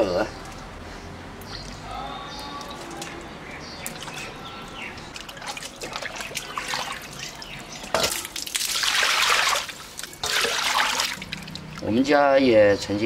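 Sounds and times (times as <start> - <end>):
water splashing and trickling: 1.3 - 12.3
water dripping: 1.4 - 12.0.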